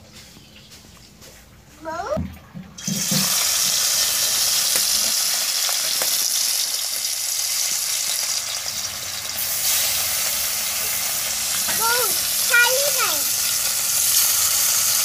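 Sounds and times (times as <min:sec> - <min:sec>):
fish frying in hot oil: 0:02.8 - 0:15.0.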